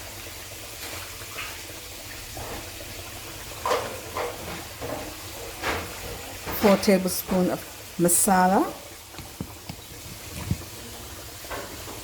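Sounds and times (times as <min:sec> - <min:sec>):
onions sizzling in a pot: 0:00.0 - 0:12.0.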